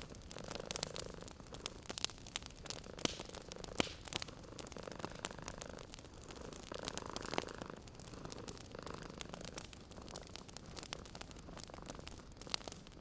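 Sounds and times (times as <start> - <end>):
wood fire crackling: 0.0 - 13.0
cat purring: 0.1 - 2.0, 2.6 - 12.9.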